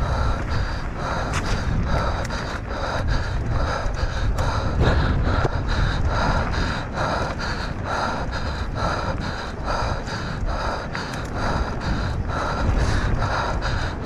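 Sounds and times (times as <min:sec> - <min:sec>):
person panting hard: 0:00.0 - 0:14.0
steady low rumble: 0:00.0 - 0:14.0.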